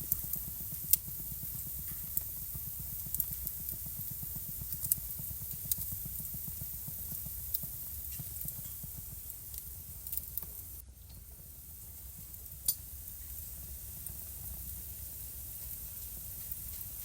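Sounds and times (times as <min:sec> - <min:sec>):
fire crackles and pops: 0:00.0 - 0:17.0
rumble and hiss of flames: 0:00.0 - 0:17.0.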